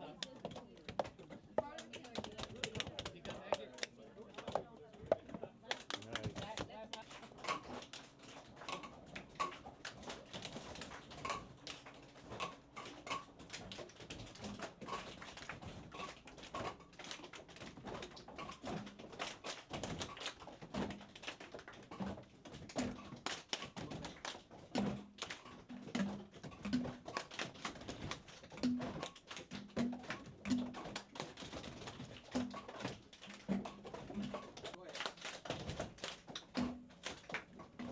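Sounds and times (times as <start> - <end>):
hands tapping lab equipment: 0.0 - 37.9.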